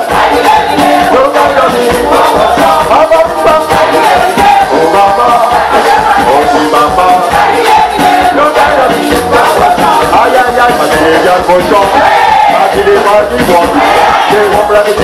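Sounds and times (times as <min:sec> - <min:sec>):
group singing into microphones: 0:00.0 - 0:15.0
musical accompaniment: 0:00.0 - 0:15.0.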